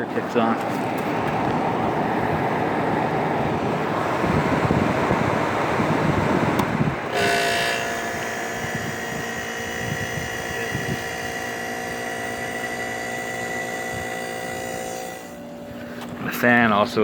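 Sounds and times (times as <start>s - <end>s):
air conditioner fan blowing: 0.0s - 17.0s
compressor humming drone: 0.0s - 17.0s.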